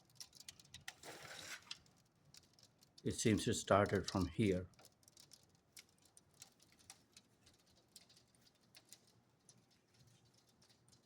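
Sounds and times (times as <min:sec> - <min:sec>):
cracked glass crackling: 0:00.0 - 0:03.0, 0:04.7 - 0:11.0.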